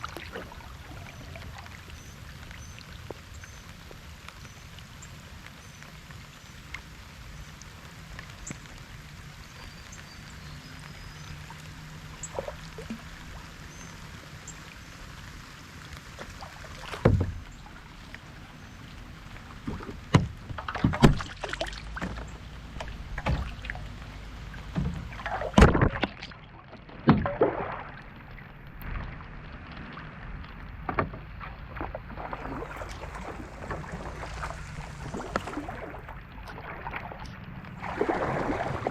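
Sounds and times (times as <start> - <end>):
paddle splashing in water: 0.0 - 5.0, 8.0 - 38.9
soft hiss of rain: 0.0 - 25.7, 27.8 - 38.9.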